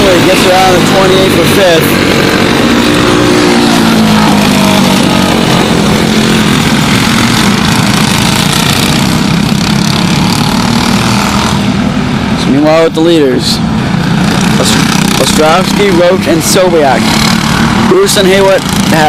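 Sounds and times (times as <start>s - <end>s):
racing kart engines: 0.0s - 19.0s.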